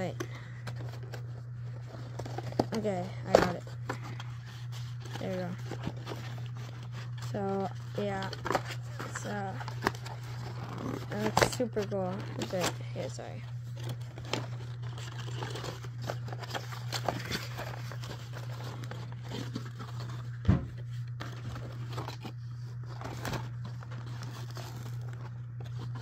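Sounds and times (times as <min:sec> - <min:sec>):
packaging crinkling and rustling: 0:00.0 - 0:26.0.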